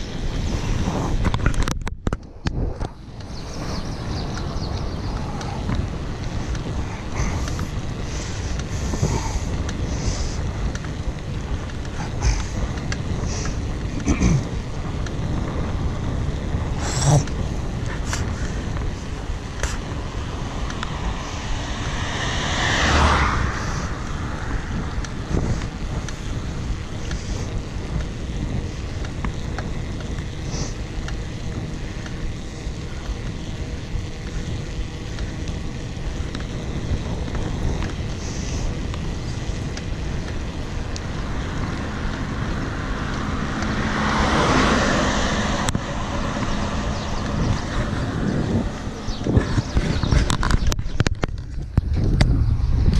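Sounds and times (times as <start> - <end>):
bike tyres on asphalt: 0.0 - 52.9
wind rushing over microphone: 0.0 - 52.9.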